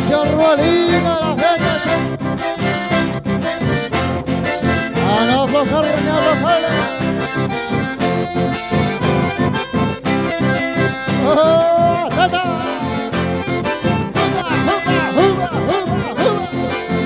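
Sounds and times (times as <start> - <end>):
accordions playing dance music: 0.0 - 17.0
acoustic guitar: 0.0 - 17.0.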